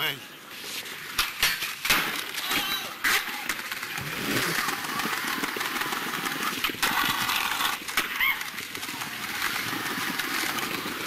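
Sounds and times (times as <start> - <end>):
skateboard wheels rolling on paving: 0.2 - 11.0.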